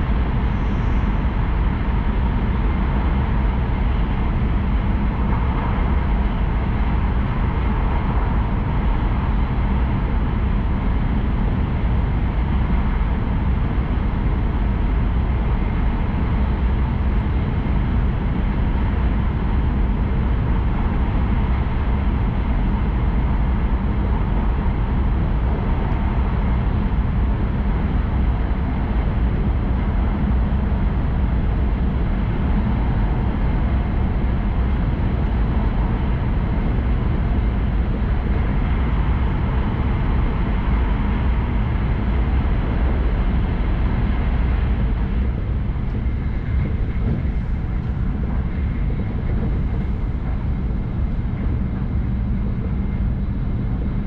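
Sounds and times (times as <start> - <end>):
train rumble inside cabin: 0.0 - 54.0.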